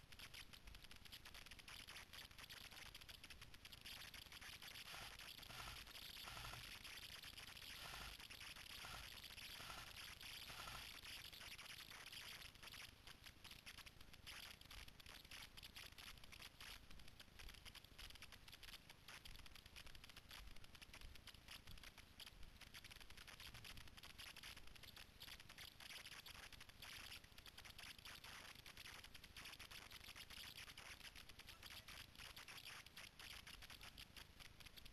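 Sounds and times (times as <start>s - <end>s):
low hiss: 0.0s - 34.9s.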